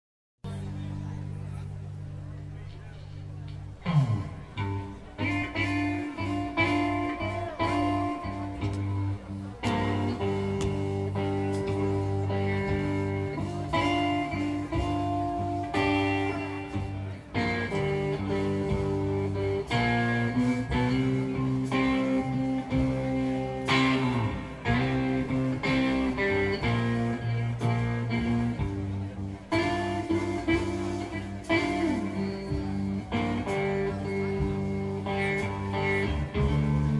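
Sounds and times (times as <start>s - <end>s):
guitar band song: 0.4s - 36.9s.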